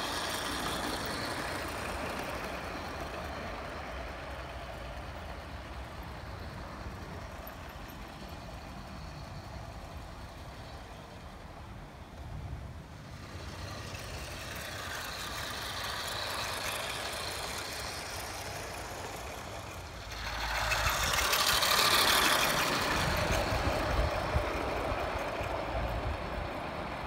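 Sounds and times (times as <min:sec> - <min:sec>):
model train wheels rolling on rail: 0:00.0 - 0:27.0.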